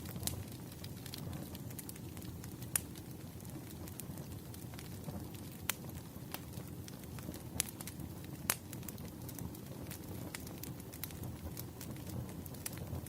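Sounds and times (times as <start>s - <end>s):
sharp pops from fire: 0.0s - 13.0s
wood fire crackling: 0.0s - 13.0s.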